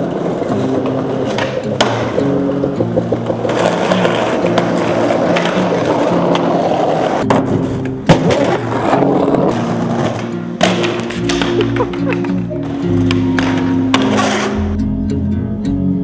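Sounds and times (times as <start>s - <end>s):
skateboard clacks: 0.0s - 14.7s
skateboard wheels rolling on pavement: 0.0s - 14.7s
background music with bass: 0.0s - 16.0s.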